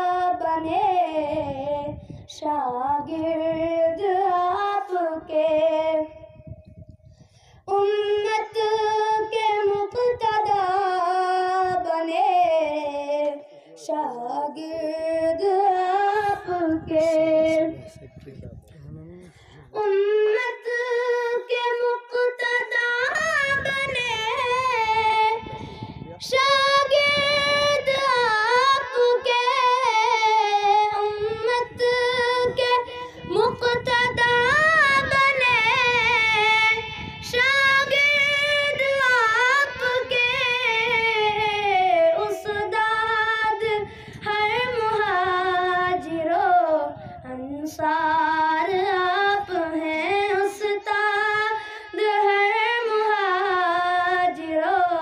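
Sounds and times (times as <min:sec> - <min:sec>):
boy singing into microphone: 0:00.0 - 0:06.6, 0:07.7 - 0:18.0, 0:19.5 - 0:55.0.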